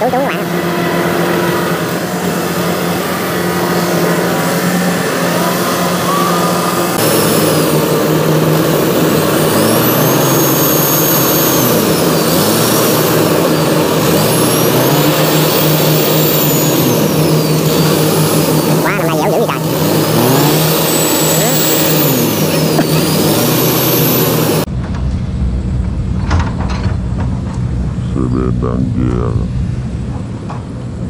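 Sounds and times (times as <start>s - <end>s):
diesel engines revving: 0.0s - 24.7s, 27.0s - 31.0s.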